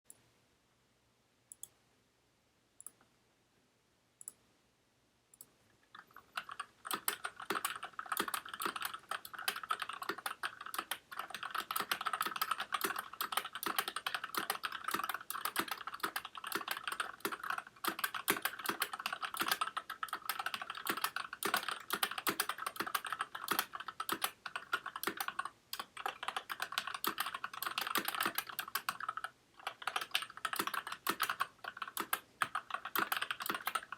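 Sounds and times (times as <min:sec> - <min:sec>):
mechanical keyboard typing: 0:06.0 - 0:33.9.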